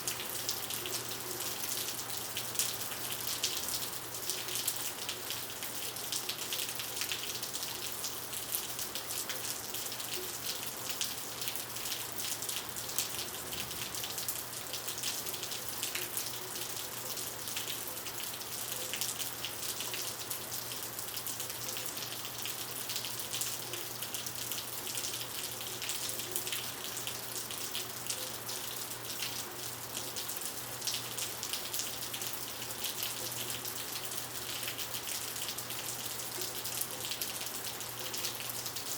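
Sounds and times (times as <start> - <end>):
heavy rain on asphalt: 0.0 - 38.9.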